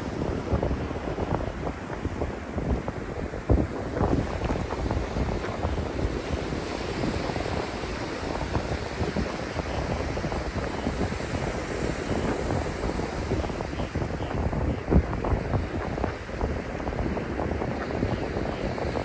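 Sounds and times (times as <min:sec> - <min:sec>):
small waves washing over sand: 0:00.0 - 0:19.0
wind buffeting microphone: 0:00.0 - 0:19.0.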